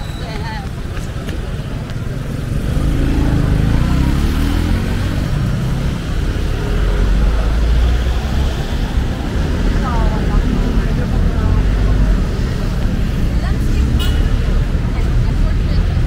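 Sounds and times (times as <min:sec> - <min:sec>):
road traffic rumble: 0:00.0 - 0:16.0
vehicle engine passing by: 0:02.4 - 0:16.0.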